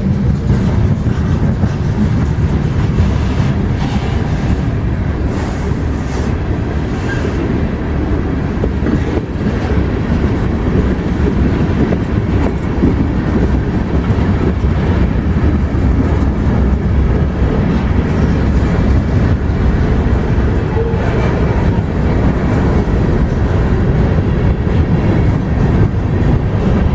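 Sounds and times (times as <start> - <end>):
freight train rumbling by: 0.0 - 26.9.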